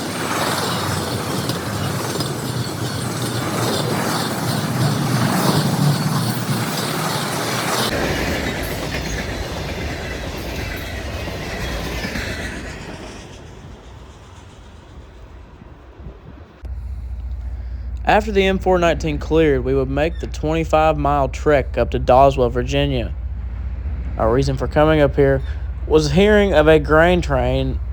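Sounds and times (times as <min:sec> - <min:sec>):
freight train wheels clickety-clack: 0:00.0 - 0:27.9
train low rumble: 0:00.0 - 0:27.9.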